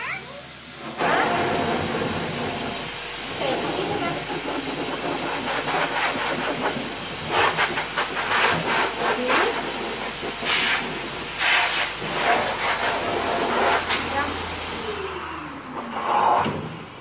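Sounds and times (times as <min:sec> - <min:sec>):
blow dryer blowing air: 0:00.0 - 0:17.0.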